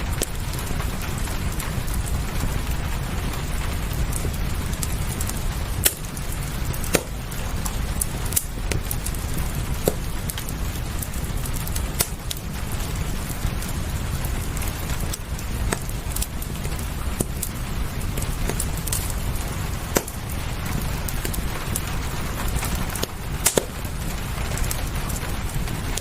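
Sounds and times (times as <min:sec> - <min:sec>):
fireplace crackling: 0:00.0 - 0:26.0
low rumble: 0:00.0 - 0:26.0
rain hissing: 0:00.0 - 0:26.0.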